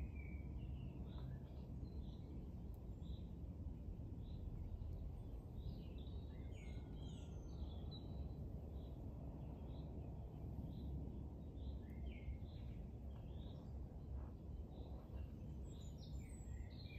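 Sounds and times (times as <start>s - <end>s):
low outdoor rumble: 0.0s - 16.9s
small birds chirping: 0.0s - 16.9s.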